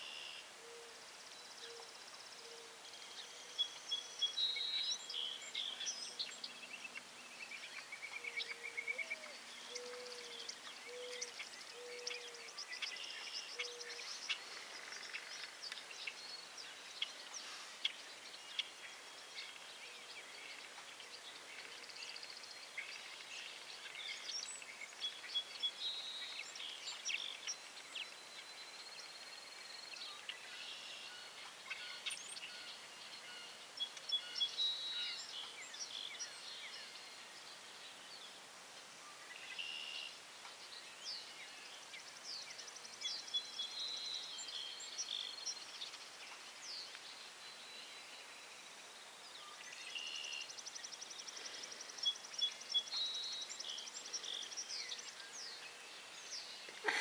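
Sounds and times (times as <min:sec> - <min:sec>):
faint background hiss: 0:00.0 - 0:57.0
small birds chirping and trilling: 0:00.0 - 0:57.0.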